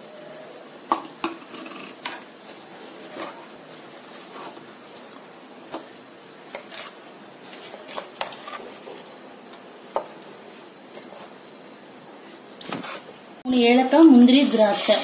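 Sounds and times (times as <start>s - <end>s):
wet stirring in a pot: 1.4s - 13.1s, 14.2s - 15.0s.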